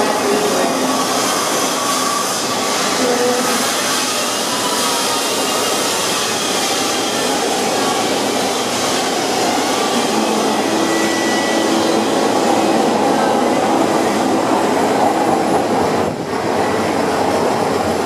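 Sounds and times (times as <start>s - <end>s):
faint train whines: 0.0s - 18.0s
subway train rumble in tunnel: 0.0s - 18.0s.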